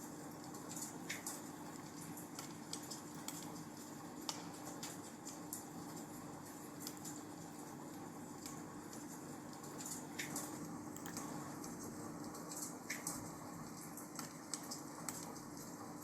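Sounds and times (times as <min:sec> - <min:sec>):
wood fire crackling: 0:00.1 - 0:16.0.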